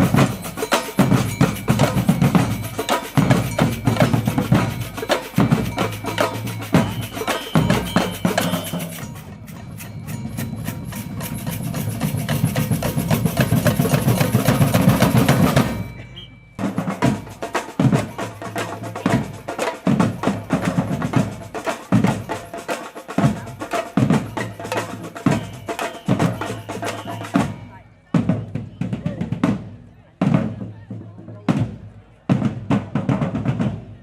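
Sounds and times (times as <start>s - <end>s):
drum roll: 0.0s - 16.0s, 16.6s - 34.0s.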